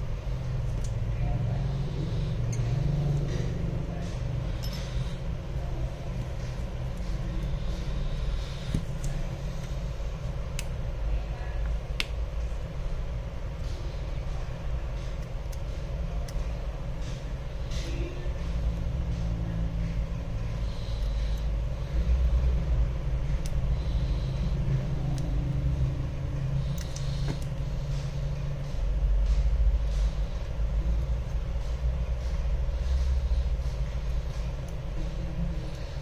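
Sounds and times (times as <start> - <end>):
constant hum: 0.0 - 36.0
low steady rumble: 0.0 - 36.0.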